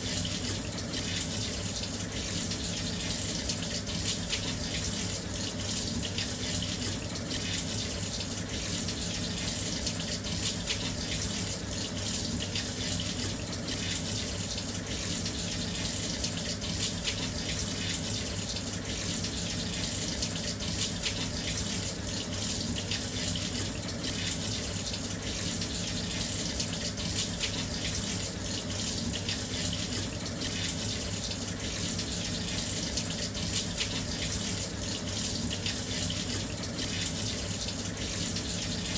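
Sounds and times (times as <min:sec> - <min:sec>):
water pouring into washing machine: 0:00.0 - 0:38.9.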